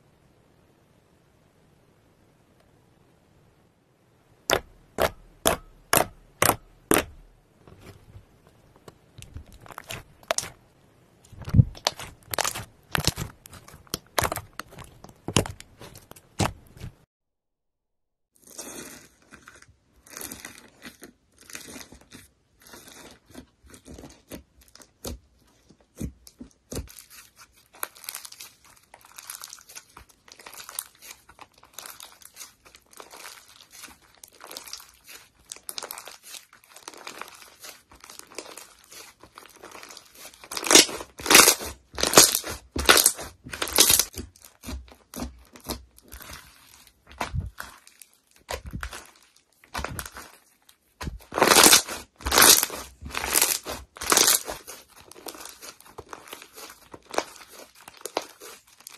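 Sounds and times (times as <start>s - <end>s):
slime crackling and crunching: 4.5s - 8.0s, 9.2s - 10.6s, 11.2s - 17.0s, 18.4s - 58.9s.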